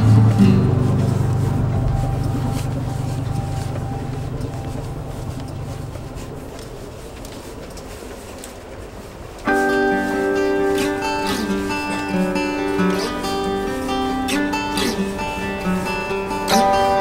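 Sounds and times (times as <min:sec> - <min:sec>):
acoustic guitar music: 0:00.0 - 0:07.4, 0:09.4 - 0:17.0
train rumble and hiss: 0:00.0 - 0:17.0.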